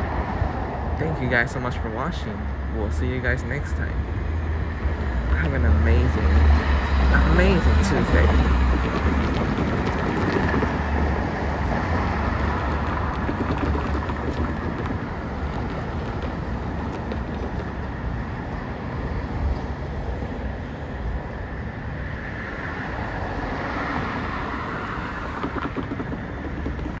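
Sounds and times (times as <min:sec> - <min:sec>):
freight train rumbling past: 0:00.0 - 0:25.4.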